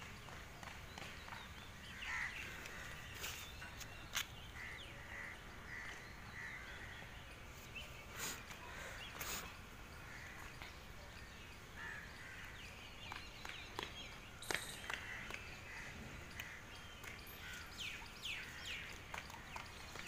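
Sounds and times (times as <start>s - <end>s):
outdoor ambience: 0.0s - 20.0s.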